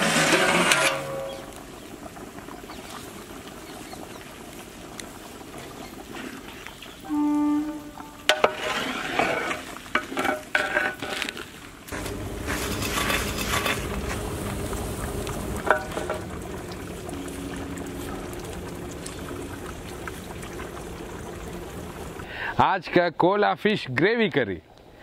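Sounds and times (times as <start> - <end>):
pot boiling and bubbling: 0.0 - 22.6.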